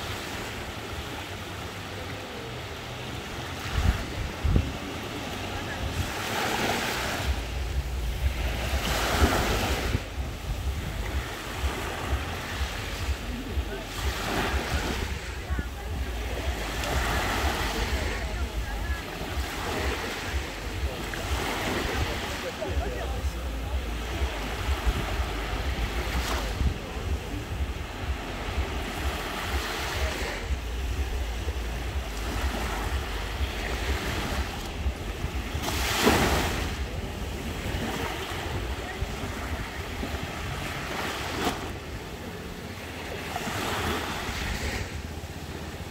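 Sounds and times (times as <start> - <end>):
small waves breaking on shore: 0.0 - 45.9
wind rumble on microphone: 2.9 - 45.9.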